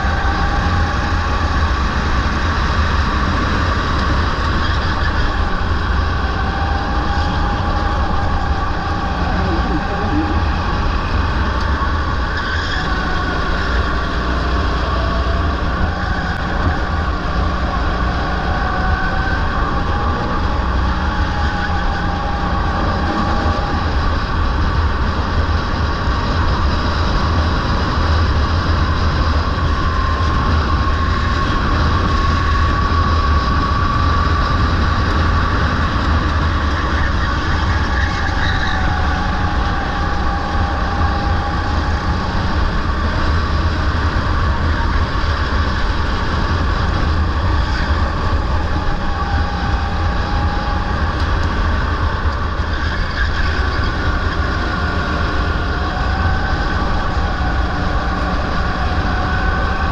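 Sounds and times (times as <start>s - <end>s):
faint whining tones: 0.0s - 59.9s
go-kart motor drone: 0.0s - 59.9s.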